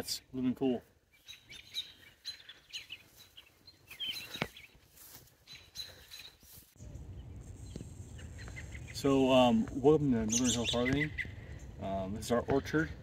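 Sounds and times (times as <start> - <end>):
songbirds chirping and singing: 0.4 - 13.0.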